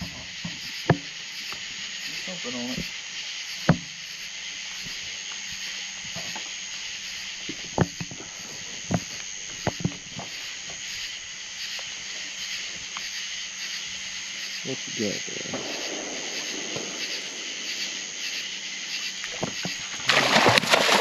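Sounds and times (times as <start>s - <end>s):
night insects chirring: 0.0s - 21.0s.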